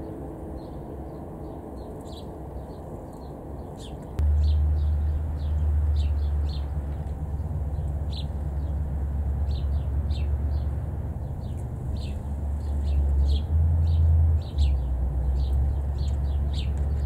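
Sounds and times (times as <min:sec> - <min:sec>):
steady low rumble: 0:00.0 - 0:16.7
sparrows chirping: 0:00.0 - 0:17.0.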